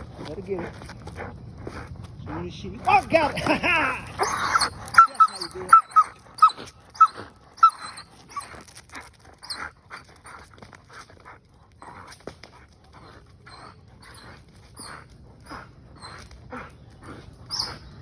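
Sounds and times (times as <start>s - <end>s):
dog panting hard: 0.0s - 18.0s.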